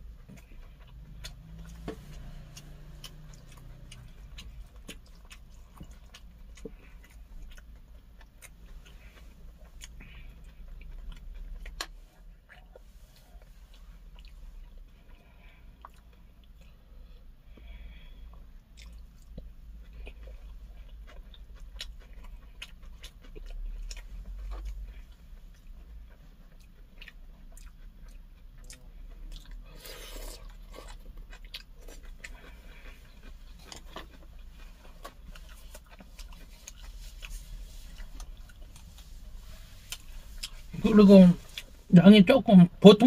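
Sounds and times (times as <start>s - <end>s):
chewing and crunching: 0.0s - 41.8s.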